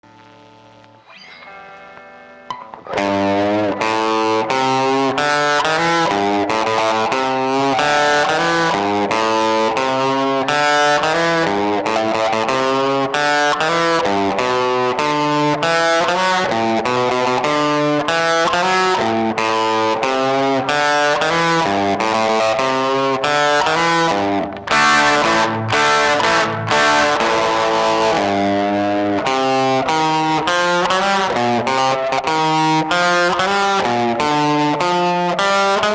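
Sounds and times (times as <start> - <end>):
distorted electric guitar riff: 0.0 - 35.9.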